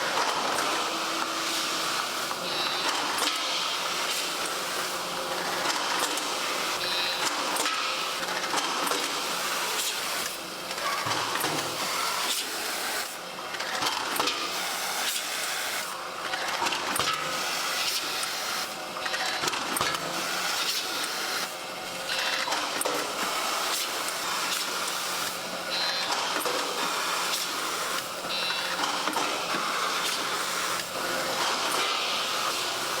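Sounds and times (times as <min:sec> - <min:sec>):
meat processing machine running: 0:00.0 - 0:33.0.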